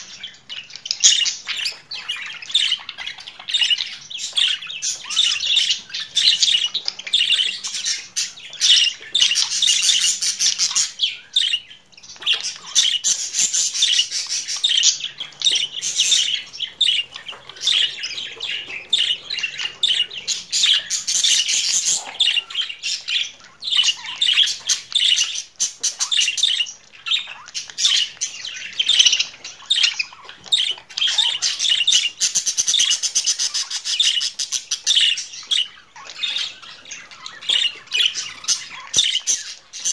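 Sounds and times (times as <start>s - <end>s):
budgerigars warbling and chattering: 0.0s - 39.9s.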